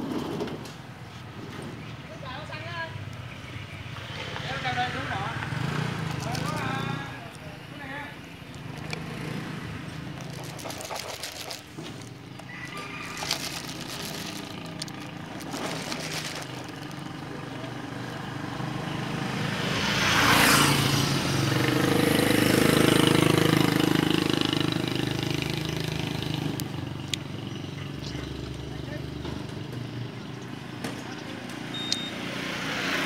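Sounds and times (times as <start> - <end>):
motor vehicle passing: 3.3 - 33.0.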